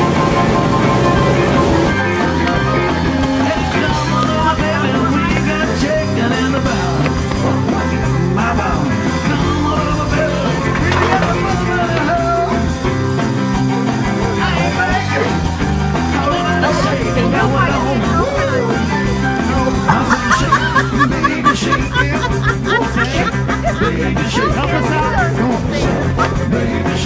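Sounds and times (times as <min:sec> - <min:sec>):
rock music with singing: 0:00.0 - 0:27.0.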